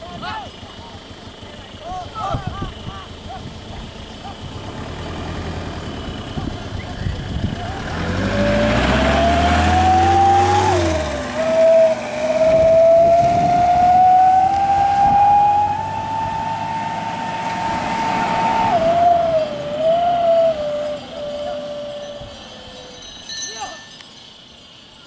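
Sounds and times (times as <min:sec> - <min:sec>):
engine accelerating with whine: 0:00.0 - 0:23.2.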